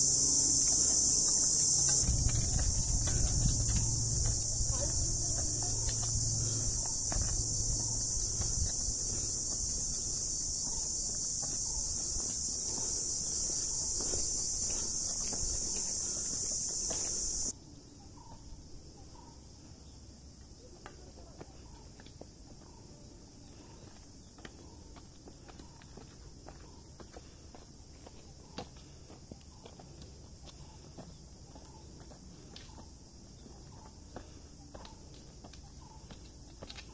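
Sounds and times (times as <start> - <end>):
footsteps on dirt and rock: 0.0 - 17.5, 20.8 - 36.9
insects droning: 0.0 - 36.9.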